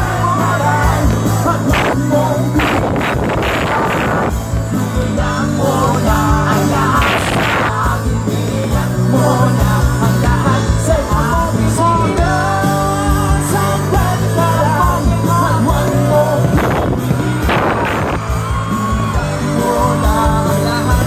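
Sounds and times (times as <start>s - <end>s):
lead singer singing: 0.0s - 21.0s
live rock band playing: 0.0s - 21.0s.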